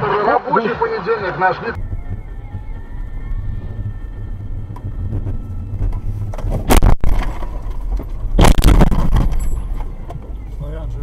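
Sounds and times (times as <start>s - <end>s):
road rumble inside car: 1.8s - 11.0s.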